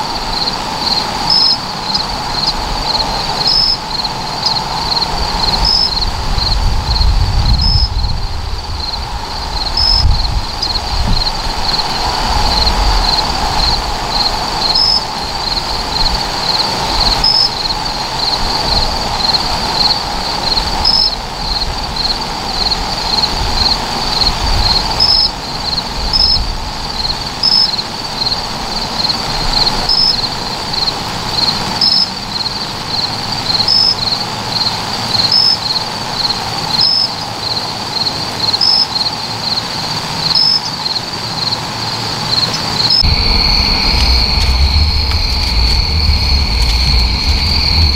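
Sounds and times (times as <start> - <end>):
crickets chirping: 0.0 - 47.9
higher cricket chirp: 0.0 - 47.9.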